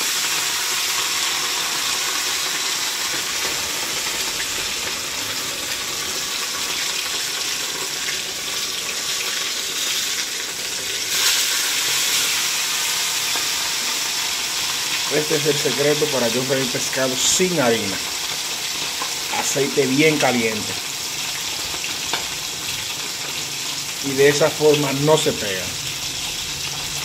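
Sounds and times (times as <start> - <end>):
fish sizzling in hot oil: 0.0 - 27.0.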